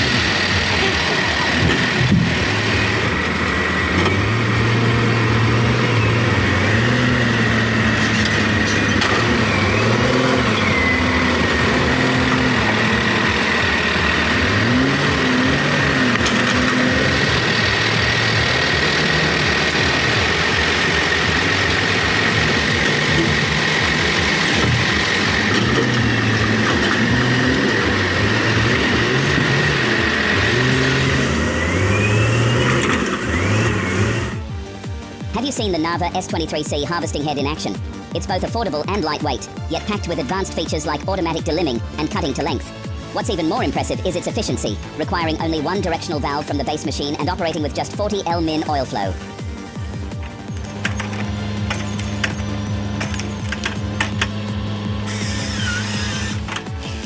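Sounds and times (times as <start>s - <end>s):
heavy machinery engine running: 0.0s - 57.0s.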